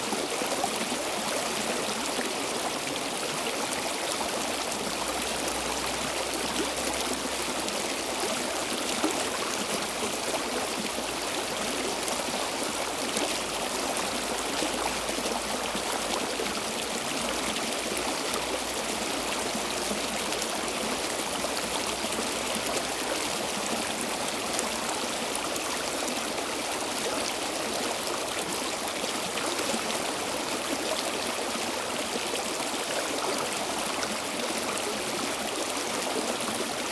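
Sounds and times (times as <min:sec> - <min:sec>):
stream flowing over rocks: 0:00.0 - 0:36.9.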